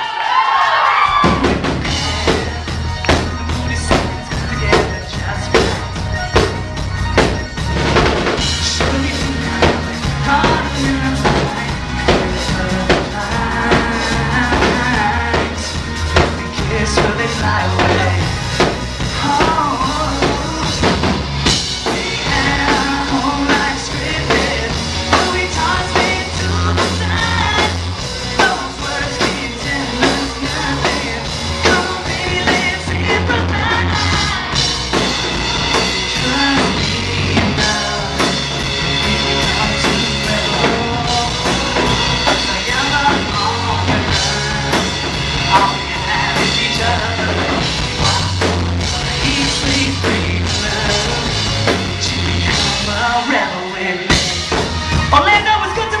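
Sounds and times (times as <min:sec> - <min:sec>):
lead singer: 0:00.0 - 0:56.0
live pop-rock band playing: 0:00.0 - 0:56.0.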